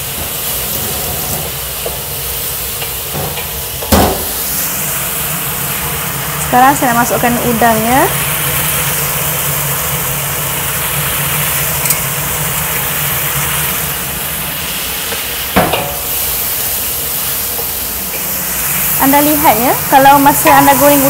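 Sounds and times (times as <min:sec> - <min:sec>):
prawns sizzling in oil: 0:00.0 - 0:21.0.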